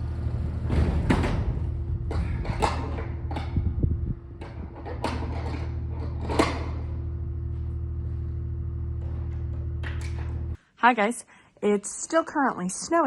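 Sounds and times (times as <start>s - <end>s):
skid steer engine droning: 0.0s - 10.6s.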